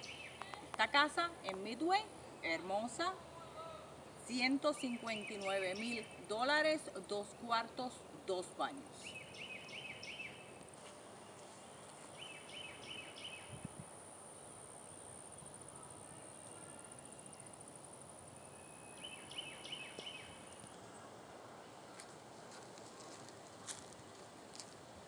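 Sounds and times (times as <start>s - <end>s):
songbird singing: 0.0s - 13.8s, 14.4s - 24.7s.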